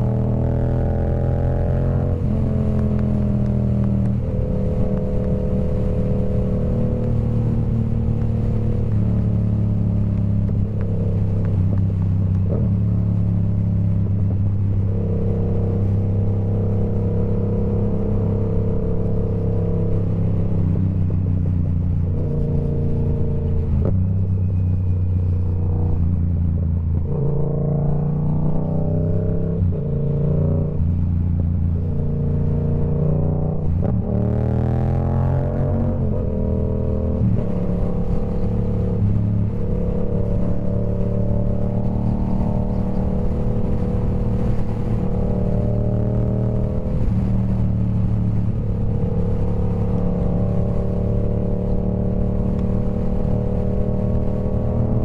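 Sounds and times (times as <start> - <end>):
motorcycle exhaust revving: 0.0 - 55.0.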